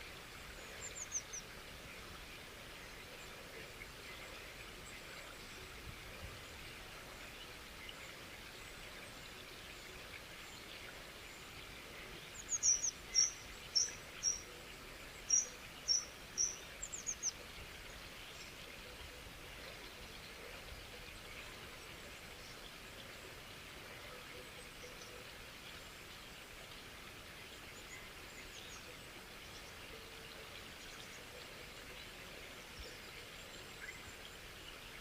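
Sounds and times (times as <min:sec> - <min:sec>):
running water hiss: 0:00.0 - 0:35.0.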